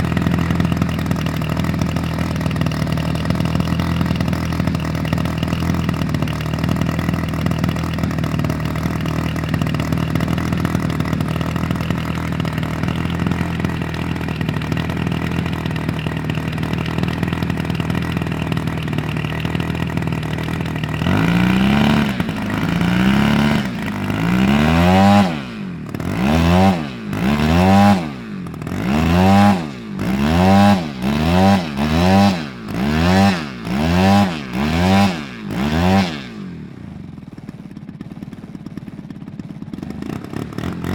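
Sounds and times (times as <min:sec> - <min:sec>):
model airplane engine revving: 0:00.0 - 0:40.9.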